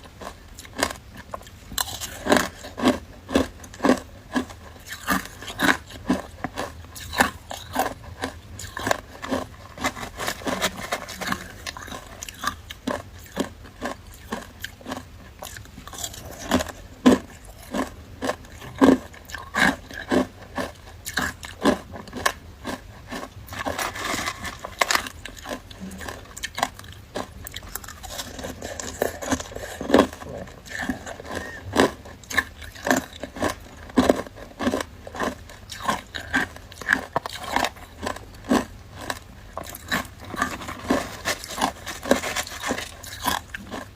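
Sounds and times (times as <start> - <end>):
crunching and chewing ice: 0.0 - 43.9.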